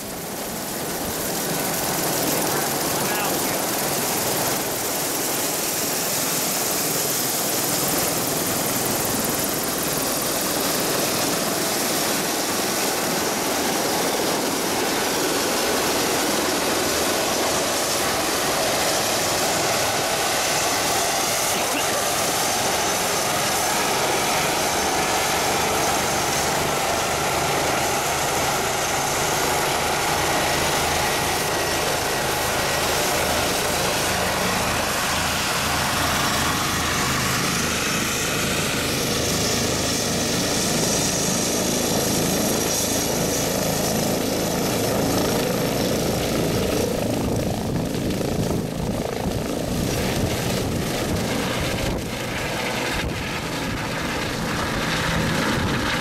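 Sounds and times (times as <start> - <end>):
helicopter turbine and rotor: 0.0 - 56.0.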